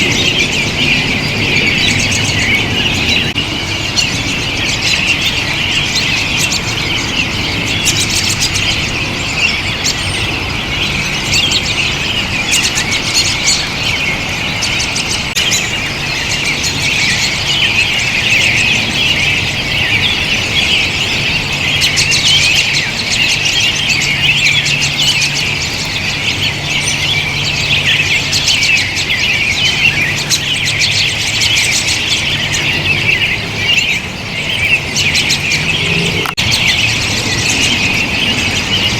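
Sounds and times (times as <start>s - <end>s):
flock of birds chattering: 0.0s - 38.9s.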